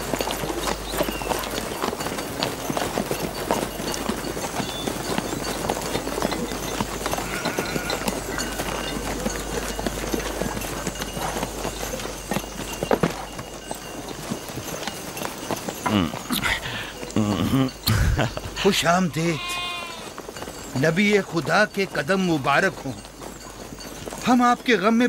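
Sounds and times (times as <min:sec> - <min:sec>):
horse hooves clip-clopping on dirt: 0:00.0 - 0:25.0.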